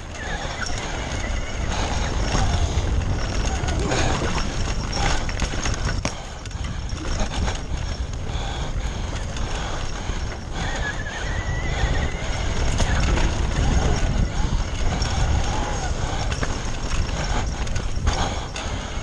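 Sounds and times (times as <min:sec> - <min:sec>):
bike rattling over bumps: 0:00.0 - 0:19.0
tyres on loose dirt: 0:00.0 - 0:19.0
wind rumble on microphone: 0:00.0 - 0:19.0.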